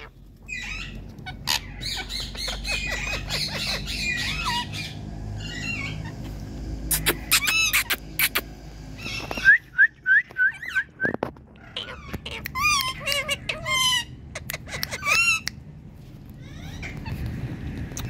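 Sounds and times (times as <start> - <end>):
parrot chirping and squawking: 0.0 - 9.6, 10.5 - 18.0.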